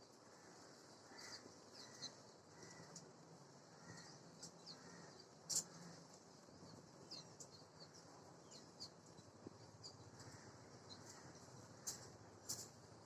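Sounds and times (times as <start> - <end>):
birds chirping: 0.5 - 12.7.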